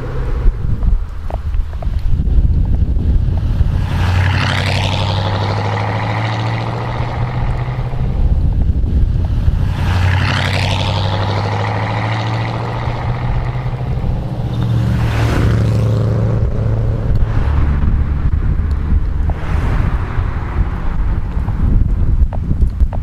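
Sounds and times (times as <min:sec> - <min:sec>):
cars driving past: 0:00.0 - 0:22.6
car engines rumbling: 0:00.0 - 0:23.0.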